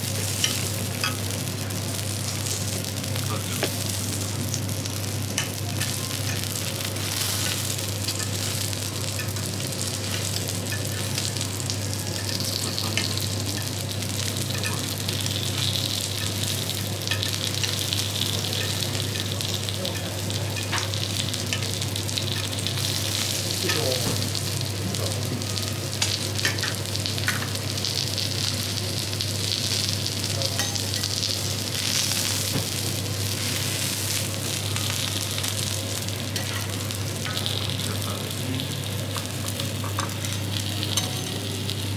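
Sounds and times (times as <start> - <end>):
steak sizzling on a griddle: 0.0 - 41.9.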